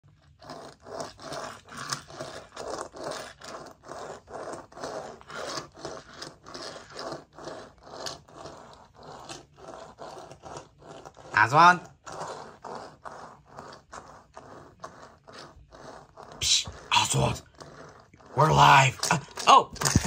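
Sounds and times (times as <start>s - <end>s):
toy scraping across floor: 0.0s - 20.0s.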